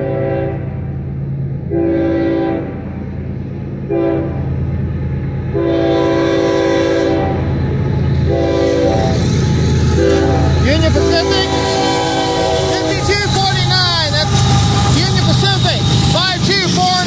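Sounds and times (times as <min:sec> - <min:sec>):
locomotive air horn blasts: 0:00.0 - 0:01.0, 0:01.7 - 0:03.0, 0:03.9 - 0:04.6, 0:05.5 - 0:17.0.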